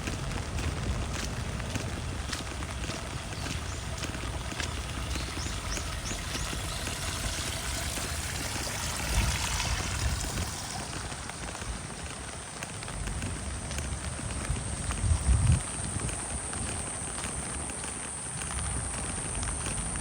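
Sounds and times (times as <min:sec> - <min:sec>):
water pouring and trickling: 0:00.0 - 0:16.9
steady rain falling: 0:00.0 - 0:20.0.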